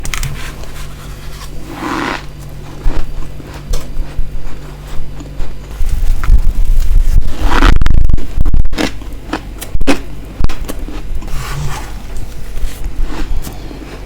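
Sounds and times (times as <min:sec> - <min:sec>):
crunching freezer frost: 0:00.0 - 0:14.0.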